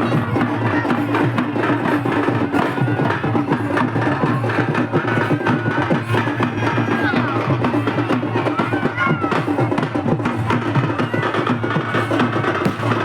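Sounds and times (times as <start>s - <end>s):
music with fast percussion: 0.0s - 13.0s.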